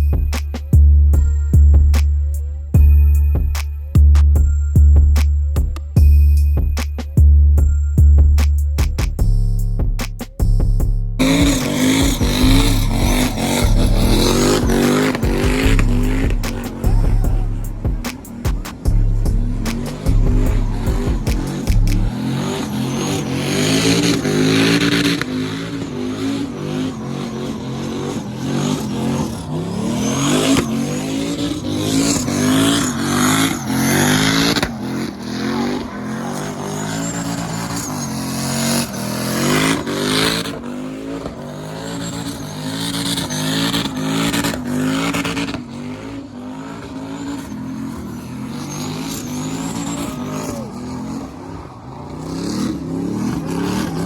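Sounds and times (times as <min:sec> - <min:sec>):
truck engine revving: 0:00.0 - 0:06.0, 0:07.0 - 0:54.0.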